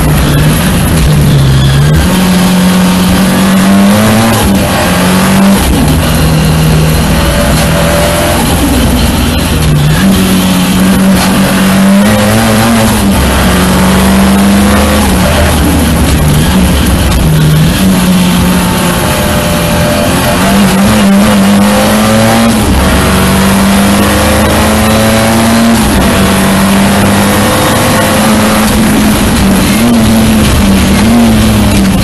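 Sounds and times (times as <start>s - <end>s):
race car engine accelerating: 0.0s - 32.0s
road and wind noise: 0.0s - 32.0s.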